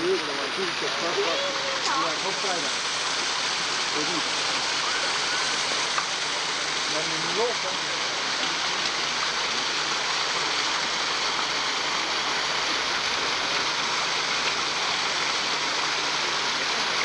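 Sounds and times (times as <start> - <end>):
waterfall rushing down rocks: 0.0 - 17.0.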